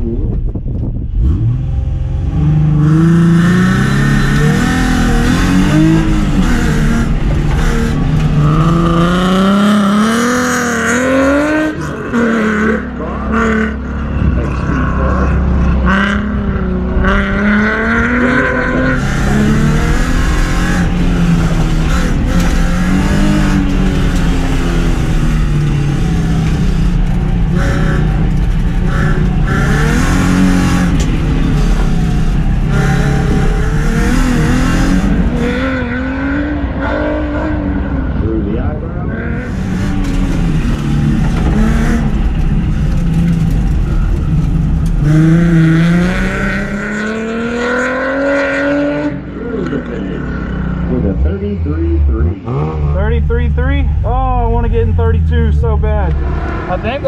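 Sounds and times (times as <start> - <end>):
car engine revving hard: 1.1 - 57.0.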